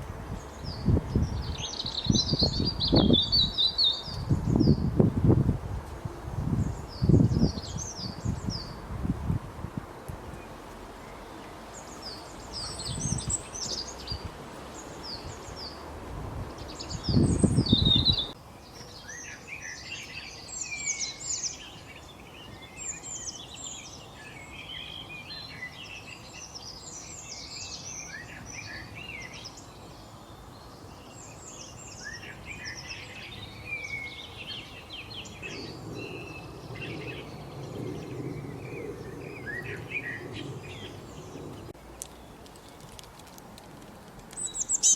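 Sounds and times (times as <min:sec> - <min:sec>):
low wind rumble: 0:00.0 - 0:18.6, 0:19.8 - 0:44.9
songbirds chirping and twittering: 0:00.0 - 0:44.9.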